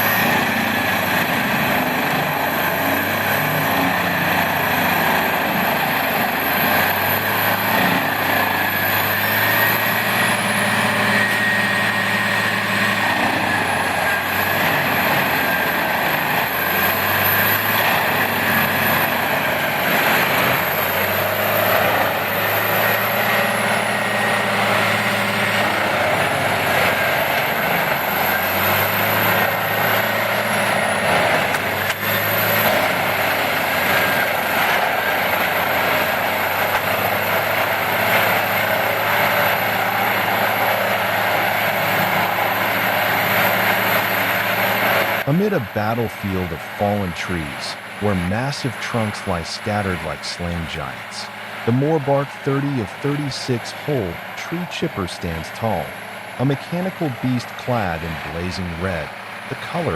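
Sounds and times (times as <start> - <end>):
heavy machine engine din: 0.0 - 59.9.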